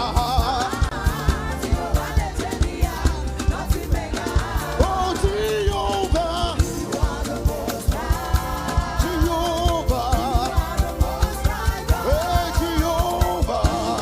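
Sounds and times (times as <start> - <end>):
band with fast drum beat: 0.0 - 14.0
people singing: 0.0 - 14.0.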